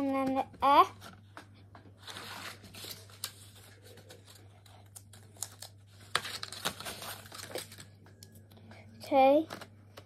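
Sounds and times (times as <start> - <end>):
low steady hum: 0.0 - 10.0
paper and card rustling: 0.0 - 10.0.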